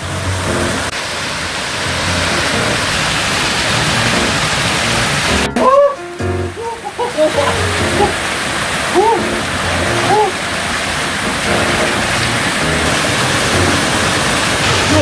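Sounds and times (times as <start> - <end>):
waterfall pouring into pool: 0.0 - 6.0, 6.6 - 15.0.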